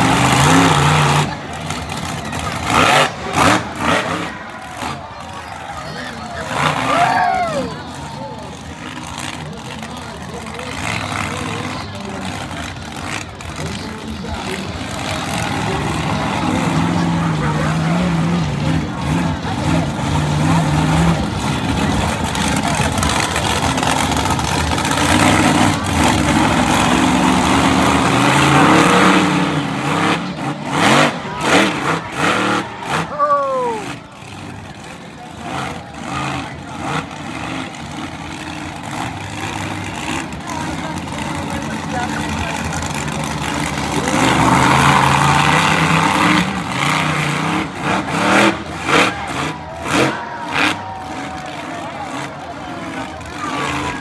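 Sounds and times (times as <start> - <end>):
racing engine revving loud: 0.0 - 5.0, 10.6 - 33.1, 33.9 - 54.0.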